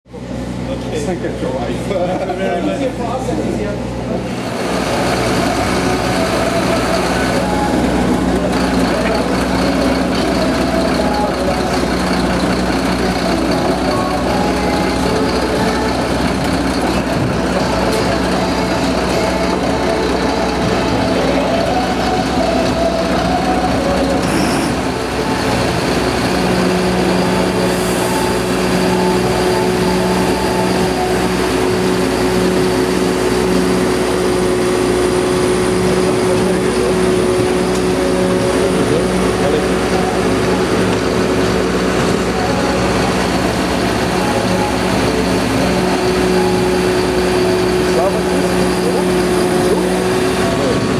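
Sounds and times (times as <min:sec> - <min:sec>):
truck engine low hum: 0:00.1 - 0:50.9
high steady tone: 0:04.3 - 0:50.9.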